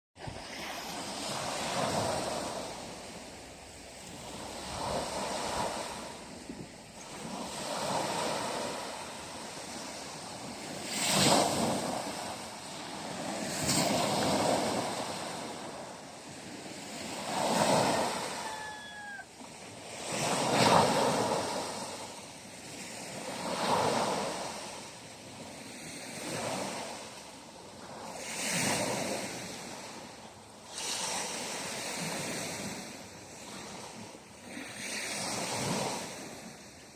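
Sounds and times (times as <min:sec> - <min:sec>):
sea waves washing on shore: 0:00.2 - 0:36.9
waves crashing: 0:00.2 - 0:36.9.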